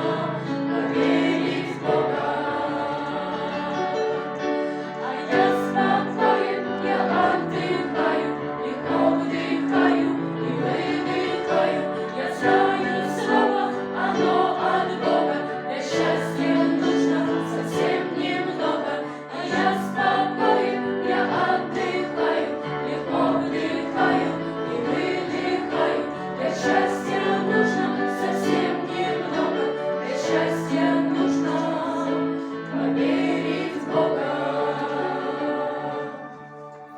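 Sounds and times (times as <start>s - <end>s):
choir singing with accompaniment: 0.0s - 36.9s.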